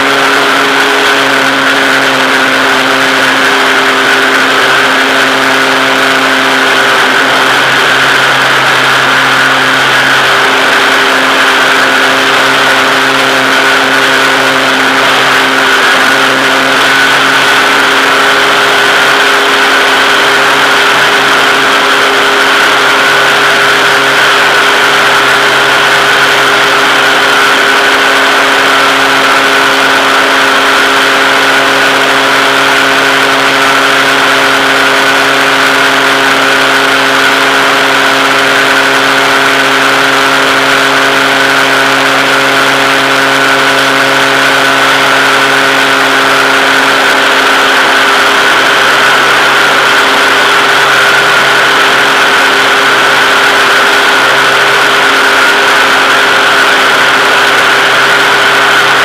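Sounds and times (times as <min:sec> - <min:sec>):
model aircraft motor hum: 0:00.0 - 0:59.0.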